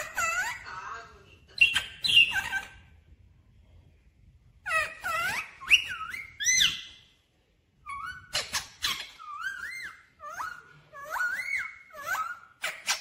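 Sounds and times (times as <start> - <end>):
parakeet calling: 0.0 - 3.0, 4.6 - 7.2, 7.8 - 13.0.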